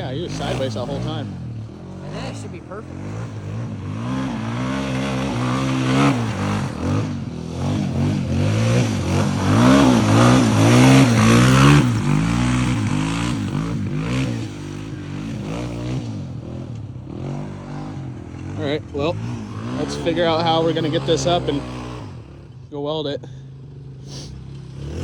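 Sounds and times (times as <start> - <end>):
engine revving in blips: 0.0 - 22.8, 23.8 - 25.0.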